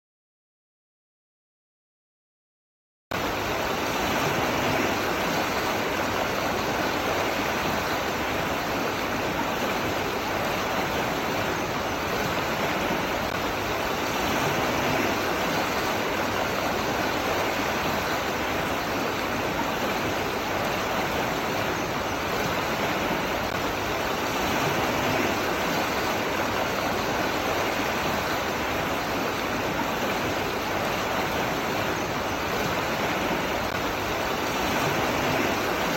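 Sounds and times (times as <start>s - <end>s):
running water rushing: 3.1s - 35.9s.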